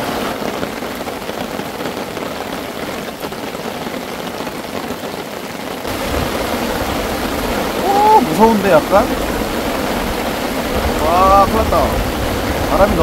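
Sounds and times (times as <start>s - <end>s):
heavy rain on a tarp: 0.0s - 13.0s
wind: 0.0s - 13.0s.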